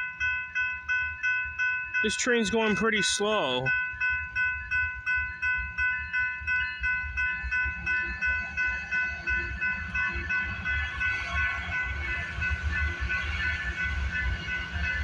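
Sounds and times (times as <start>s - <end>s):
level-crossing warning bell ringing: 0.0s - 15.0s
freight train rumbling: 2.0s - 4.4s, 5.0s - 15.0s.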